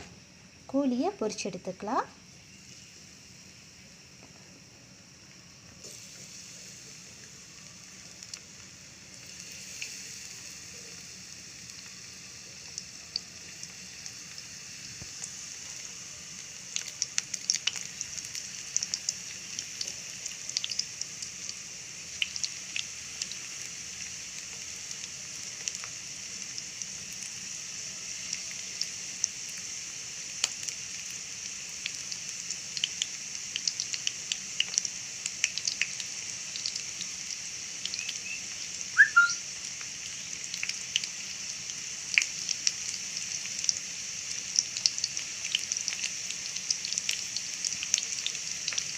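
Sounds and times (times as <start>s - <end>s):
chicken frying in oil: 0.0s - 48.9s
oil crackling and popping: 5.2s - 48.9s.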